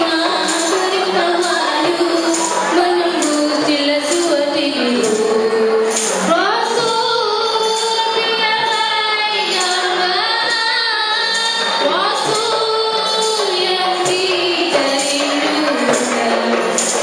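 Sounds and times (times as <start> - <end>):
frame drum beats: 0.0 - 17.0
women singing together: 0.0 - 17.0.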